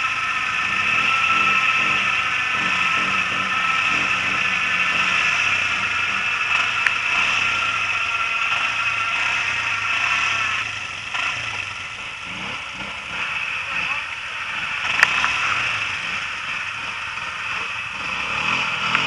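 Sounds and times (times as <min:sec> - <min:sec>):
quad engine idling: 0:00.0 - 0:19.0.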